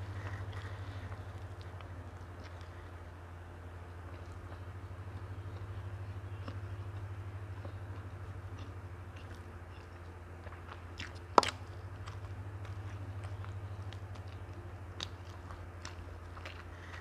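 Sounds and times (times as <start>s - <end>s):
low hum: 0.0s - 17.0s
person chewing food: 0.0s - 17.0s.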